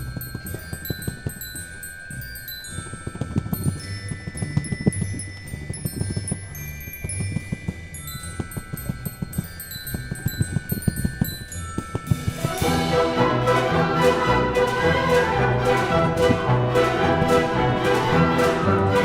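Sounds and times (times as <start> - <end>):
chimes ringing: 0.0 - 19.0.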